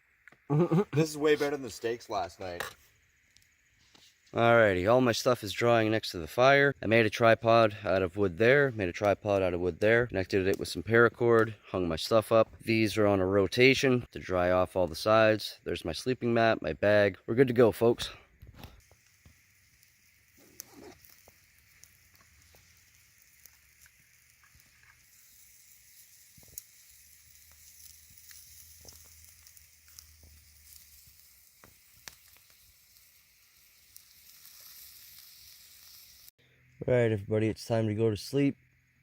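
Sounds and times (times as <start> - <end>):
campfire crackling: 0.0 - 36.7.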